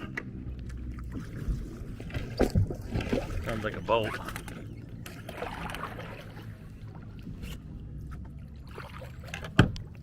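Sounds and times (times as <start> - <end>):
distant engine drone: 0.0 - 10.0.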